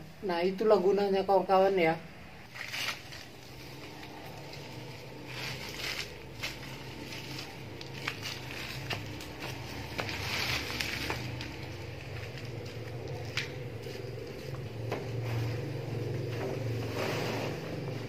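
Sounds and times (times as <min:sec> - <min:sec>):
faint low hum: 0:00.0 - 0:18.0
leaves rustling by hand: 0:02.5 - 0:18.0.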